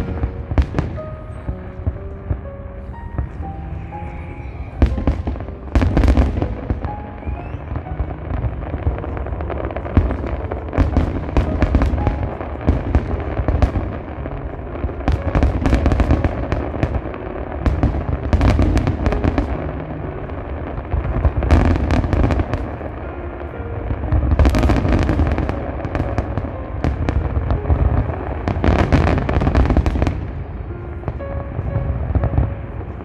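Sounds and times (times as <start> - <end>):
firework bangs and crackling: 0.0 - 33.0.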